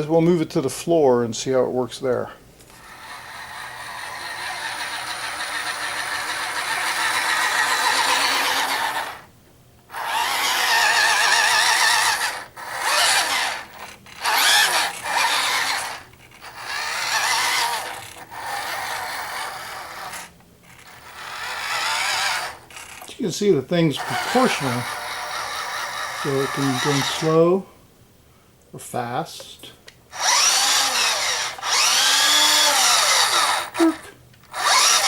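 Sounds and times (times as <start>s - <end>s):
toy truck motor whirring: 2.6s - 9.3s, 9.9s - 27.4s, 30.1s - 35.0s.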